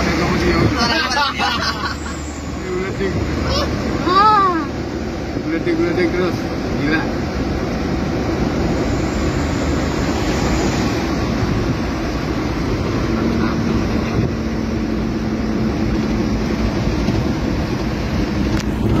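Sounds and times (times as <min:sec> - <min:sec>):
car road and tyre noise: 0:00.0 - 0:19.0.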